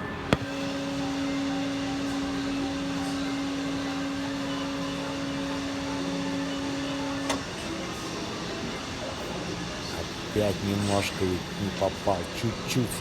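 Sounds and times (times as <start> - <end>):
arcade prize machine humming: 0.0 - 13.0.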